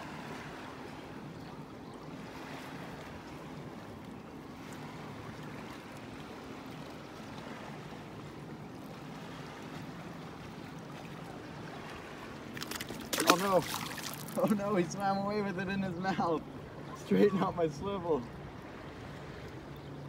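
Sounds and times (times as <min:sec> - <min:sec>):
shallow water lapping: 0:00.0 - 0:20.0
wind: 0:00.0 - 0:20.0.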